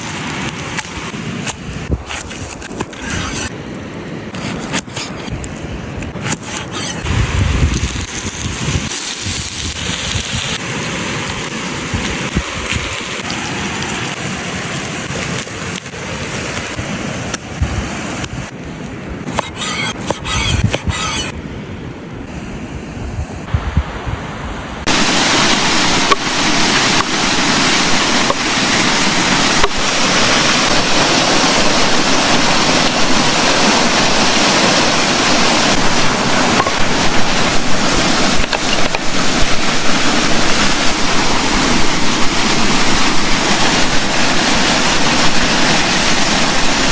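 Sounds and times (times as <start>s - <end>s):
water rushing at a lakeshore: 0.0s - 46.9s.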